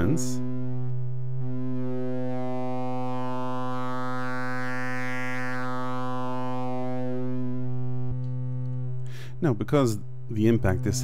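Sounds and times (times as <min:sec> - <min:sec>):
buzzy synthesizer tone: 0:00.0 - 0:11.0.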